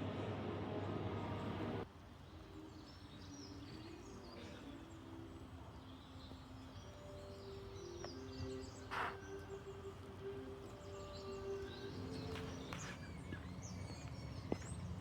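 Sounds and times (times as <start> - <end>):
birds chirping and twittering: 2.2 - 15.0.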